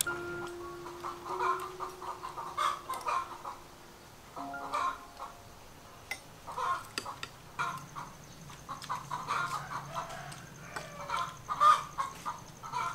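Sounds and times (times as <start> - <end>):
chickens clucking: 0.0 - 3.8, 4.4 - 12.9.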